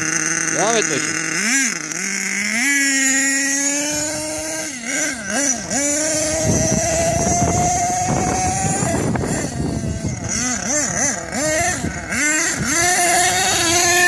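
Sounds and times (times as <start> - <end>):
small nitro engine revving: 0.0 - 14.0.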